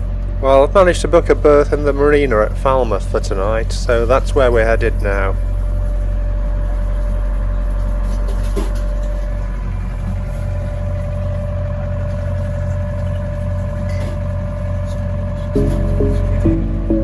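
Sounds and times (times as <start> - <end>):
boat diesel engine running: 0.0 - 17.0.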